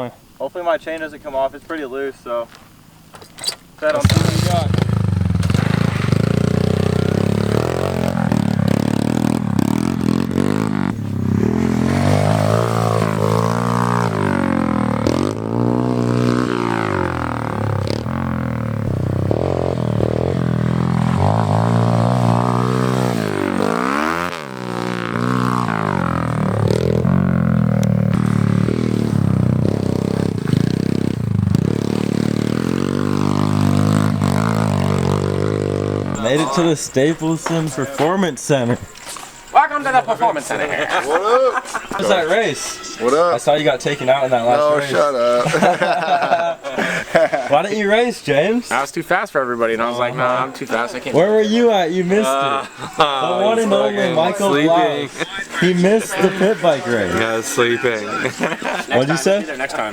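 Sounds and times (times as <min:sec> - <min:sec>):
pit bike engine revving: 0:02.8 - 0:47.5, 0:49.8 - 0:59.9.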